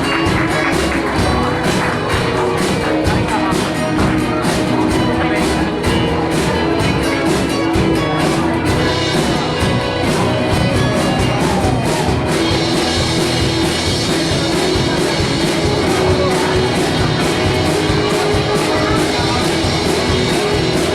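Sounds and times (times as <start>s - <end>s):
rock band playing: 0.0s - 20.9s.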